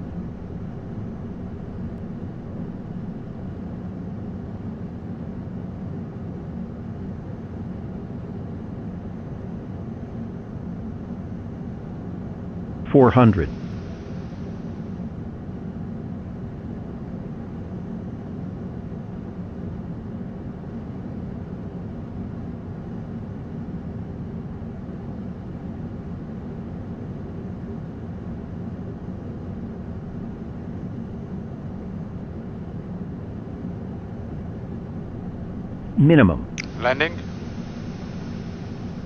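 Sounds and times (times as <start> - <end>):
aircraft engines and airflow rumble: 0.0 - 39.0.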